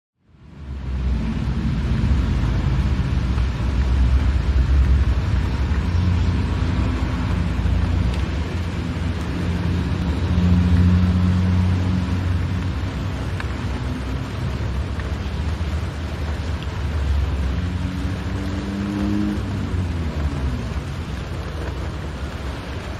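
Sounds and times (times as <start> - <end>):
car engine drone: 0.2 - 22.9
road rumble: 0.2 - 22.9
wet tyres and rain hiss: 0.2 - 22.9.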